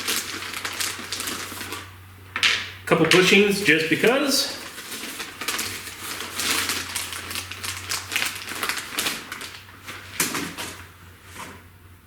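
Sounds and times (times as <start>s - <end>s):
plastic bag rustling: 0.0s - 11.7s.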